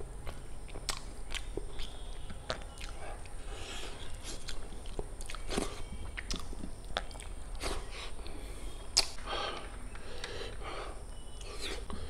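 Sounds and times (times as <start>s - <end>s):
chewing with wet smacks and clicks: 0.0s - 10.6s.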